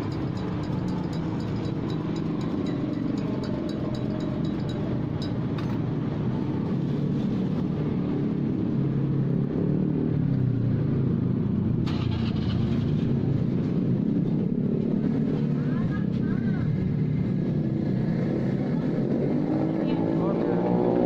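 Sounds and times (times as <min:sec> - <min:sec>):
street traffic passing: 0:00.0 - 0:21.0
vehicle engines droning: 0:00.0 - 0:21.0.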